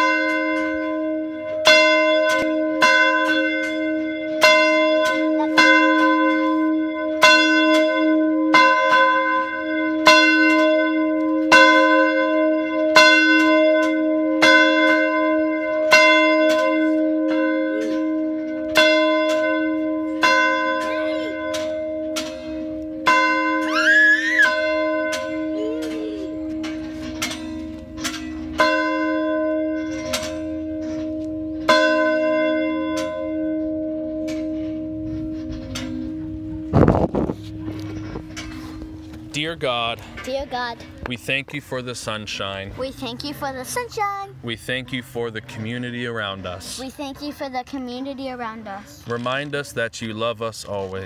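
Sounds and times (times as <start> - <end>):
church bell ringing: 0.0 - 41.0.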